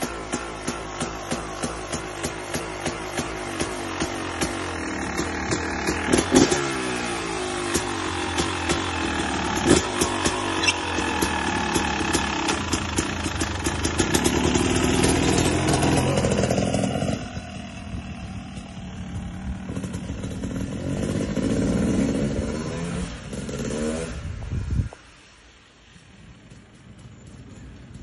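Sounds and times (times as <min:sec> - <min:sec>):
dirt bike engine revving: 0:00.0 - 0:24.3.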